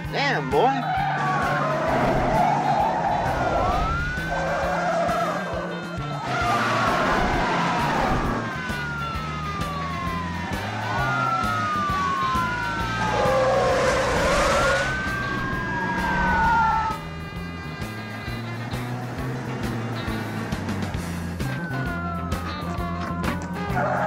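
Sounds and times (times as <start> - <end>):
car engines running: 0.0 - 24.0
police sirens wailing: 0.0 - 24.0.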